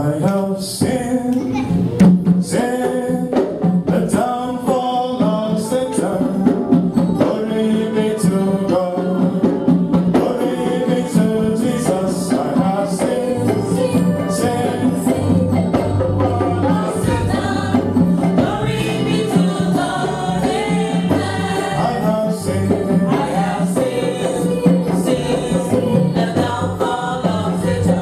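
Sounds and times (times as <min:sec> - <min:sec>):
bass and percussion: 0:00.0 - 0:28.0
congregation singing gospel: 0:00.0 - 0:28.0.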